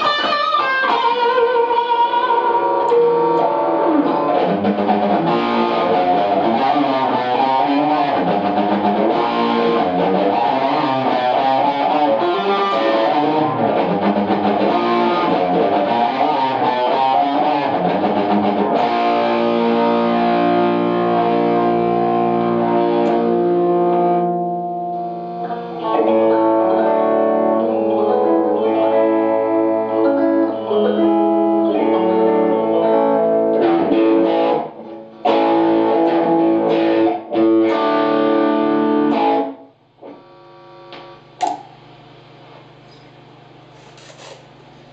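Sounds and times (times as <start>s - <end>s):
electric guitar: 0.0s - 44.9s.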